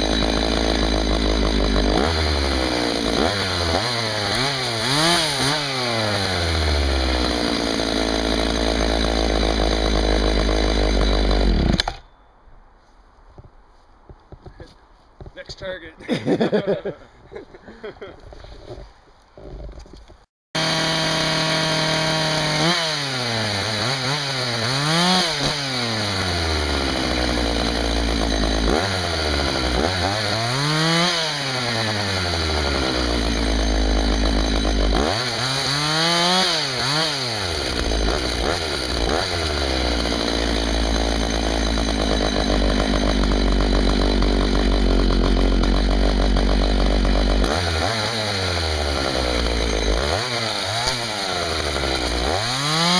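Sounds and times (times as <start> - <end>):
chainsaw revving and cutting: 0.0 - 12.0, 20.6 - 52.9.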